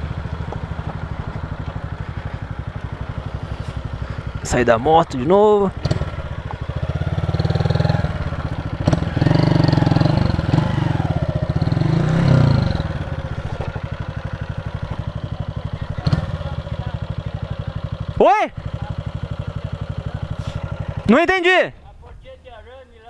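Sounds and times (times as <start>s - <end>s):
motorcycle engine running: 0.0s - 21.7s.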